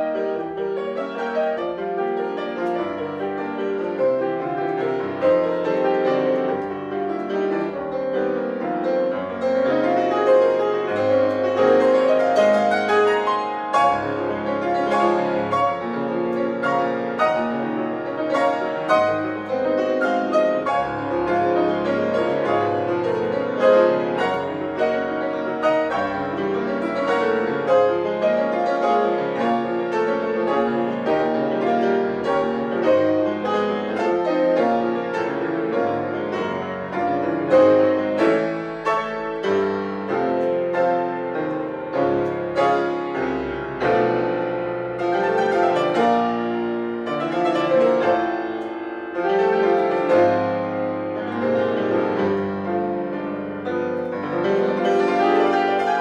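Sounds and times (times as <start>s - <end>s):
grand piano classical piece: 0.0s - 56.0s.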